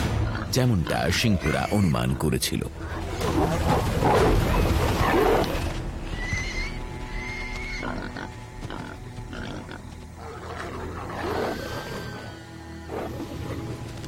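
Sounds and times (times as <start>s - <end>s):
documentary music score: 0.0s - 14.0s.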